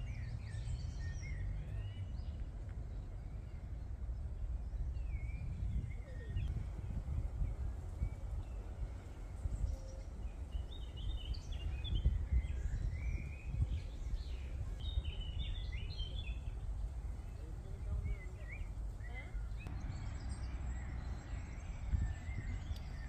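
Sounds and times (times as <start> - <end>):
songbirds warbling: 0.0 - 23.0
steady low rumble: 0.0 - 23.0.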